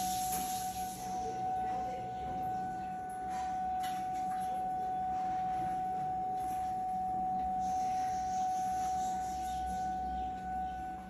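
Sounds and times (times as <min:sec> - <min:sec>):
steady high electronic tone: 0:00.0 - 0:11.0.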